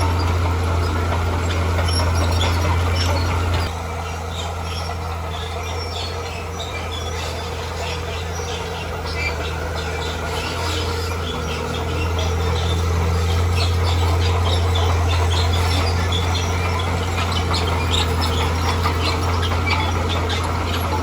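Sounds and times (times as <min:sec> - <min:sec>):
heavy machine engine droning: 0:00.0 - 0:21.0.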